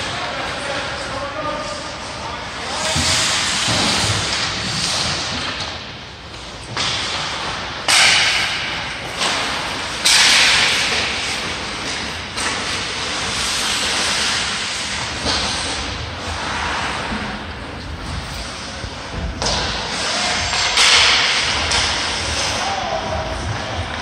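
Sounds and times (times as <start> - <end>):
hockey skates scraping ice: 0.0 - 24.0.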